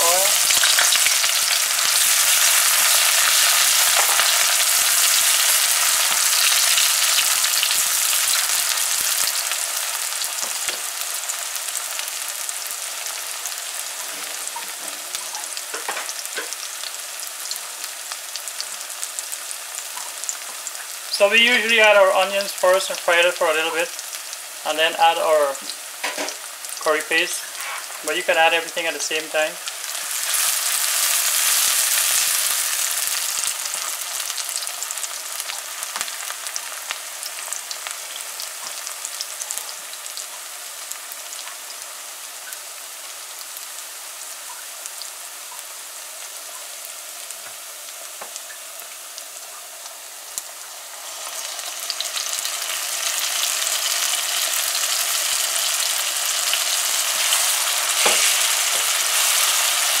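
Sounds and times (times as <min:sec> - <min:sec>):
onions sizzling in hot oil: 0:00.0 - 1:00.0.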